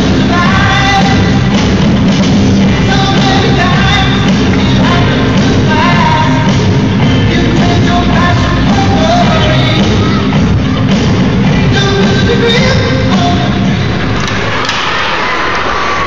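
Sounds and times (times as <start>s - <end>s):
rock song over sound system: 0.0s - 16.0s.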